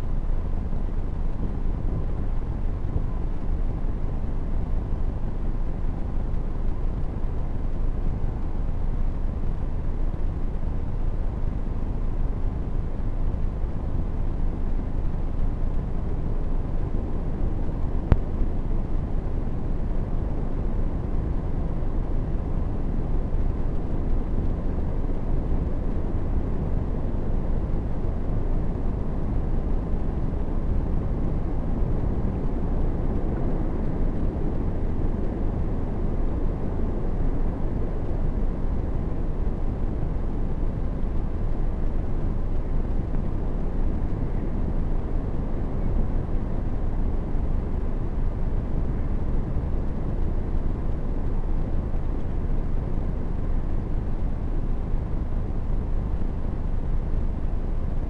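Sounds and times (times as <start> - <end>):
wind rumbling on microphone: 0.0 - 58.0.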